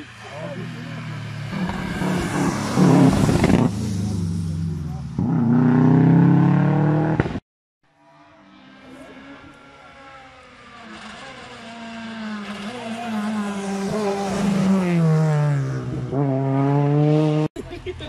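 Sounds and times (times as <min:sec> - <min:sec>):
rally car engine accelerating: 0:00.0 - 0:07.4, 0:08.2 - 0:17.5.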